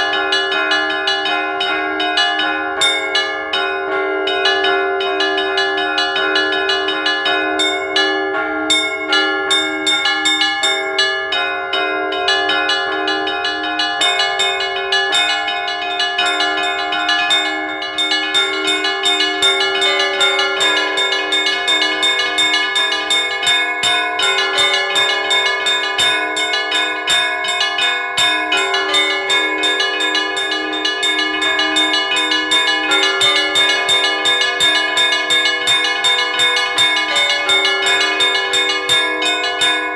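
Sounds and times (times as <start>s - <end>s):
lingering tones of large bells: 0.0s - 39.9s
small bells ringing fast: 0.0s - 39.9s.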